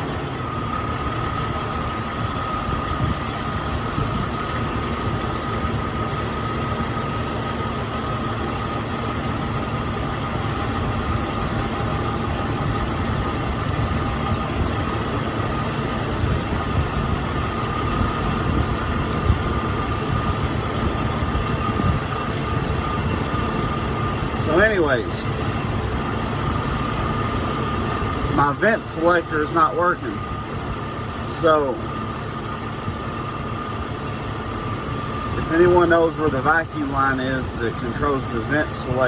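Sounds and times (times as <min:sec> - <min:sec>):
car engine idling: 0:00.0 - 0:39.0
thin high whine: 0:00.0 - 0:39.0.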